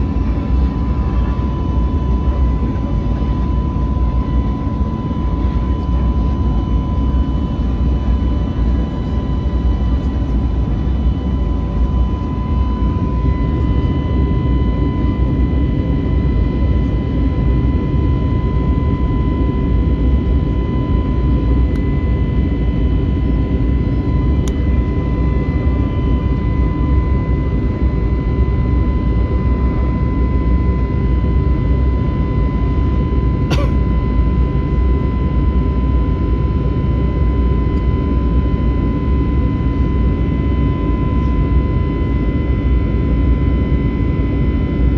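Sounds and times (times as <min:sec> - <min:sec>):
jet engine and airflow roar: 0:00.0 - 0:44.9
steady whine: 0:00.0 - 0:44.9.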